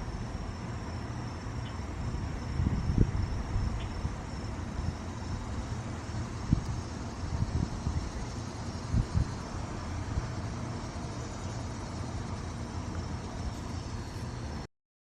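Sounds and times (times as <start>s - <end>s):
low outdoor background noise: 0.0s - 14.7s.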